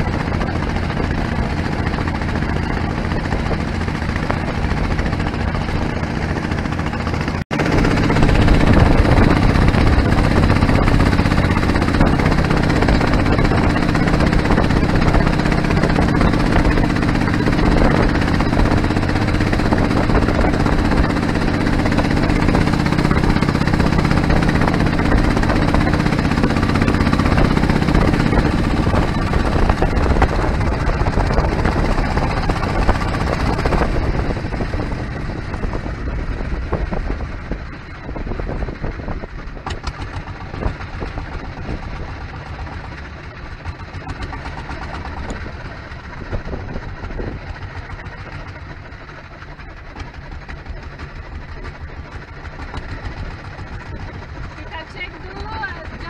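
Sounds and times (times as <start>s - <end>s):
small boat engine running: 0.0s - 56.0s.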